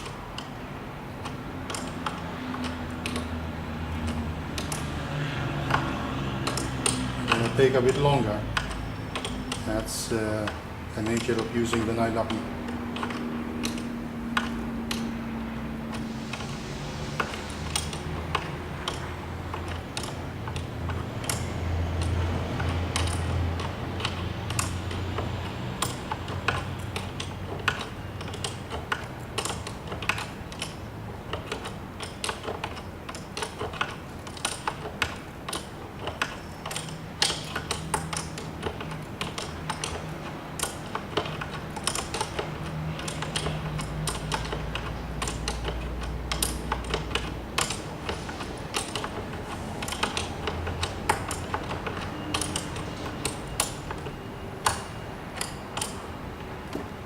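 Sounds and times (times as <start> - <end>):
spanner clicking on lock nut: 1.2 - 56.9.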